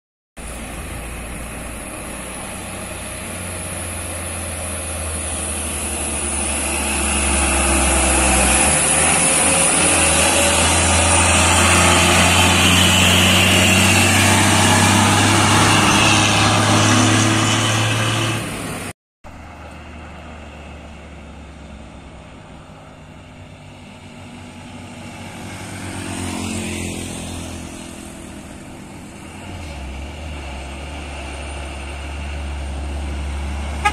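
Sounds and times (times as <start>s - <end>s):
distant truck engine climbing: 0.4s - 33.9s
truck diesel engine labouring: 0.4s - 33.9s.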